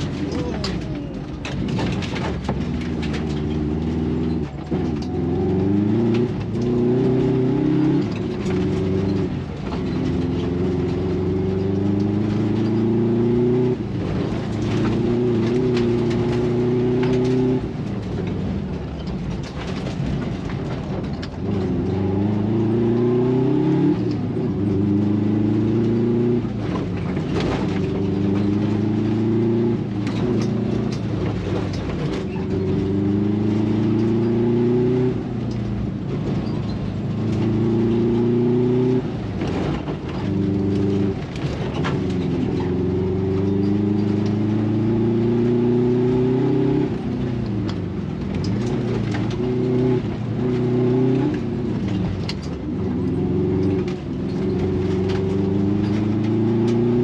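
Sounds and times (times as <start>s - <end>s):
gravel rattling under car: 0.0s - 57.0s
rally car engine revving: 0.0s - 57.0s.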